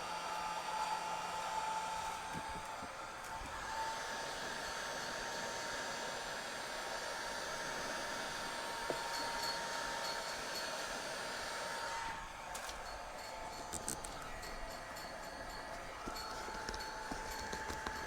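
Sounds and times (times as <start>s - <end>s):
hot-air blower hissing: 0.0s - 18.0s.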